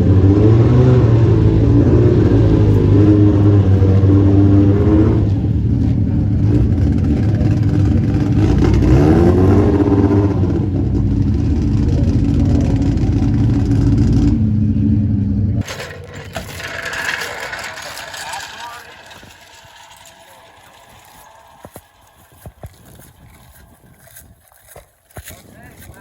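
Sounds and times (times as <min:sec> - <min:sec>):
race car engine revving: 0:00.0 - 0:24.2.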